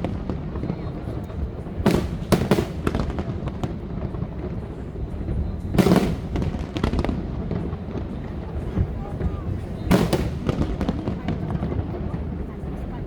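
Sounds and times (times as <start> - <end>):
loud firework blast: 0.0 - 12.5
fireworks bangs: 0.0 - 13.0.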